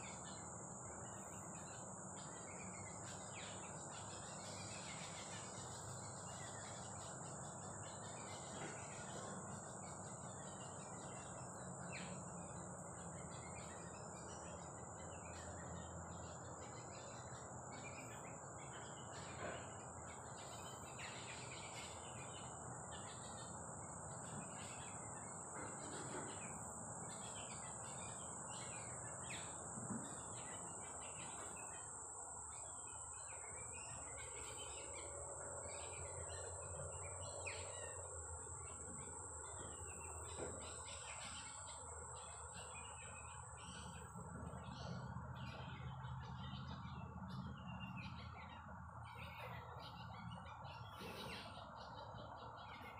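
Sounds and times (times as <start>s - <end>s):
birds chirping: 0.0s - 52.9s
high-pitched insect drone: 0.0s - 52.9s.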